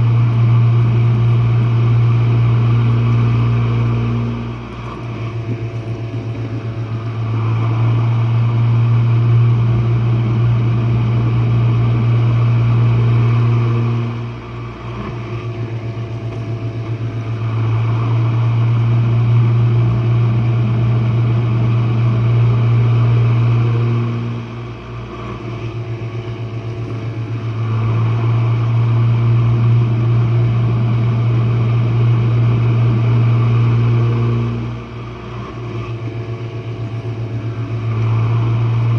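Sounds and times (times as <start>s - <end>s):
dishwasher motor hum: 0.0s - 38.9s.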